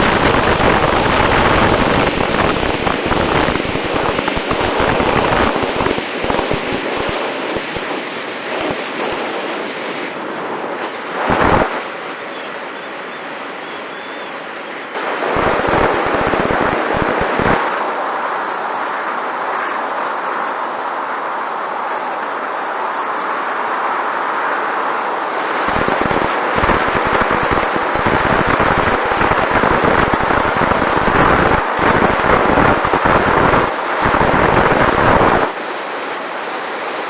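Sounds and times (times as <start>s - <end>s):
low wind buffeting: 0.0s - 37.0s
wind rushing over microphone: 0.0s - 37.0s.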